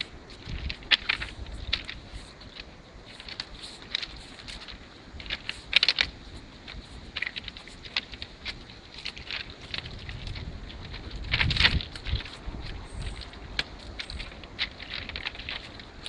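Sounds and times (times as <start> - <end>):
footsteps crunching on gravel: 0.0 - 16.0.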